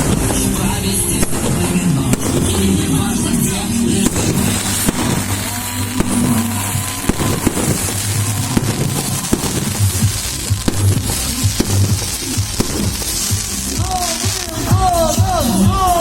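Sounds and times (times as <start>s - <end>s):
background music with bass: 0.0s - 16.0s
fireworks bangs and crackles: 0.0s - 16.0s.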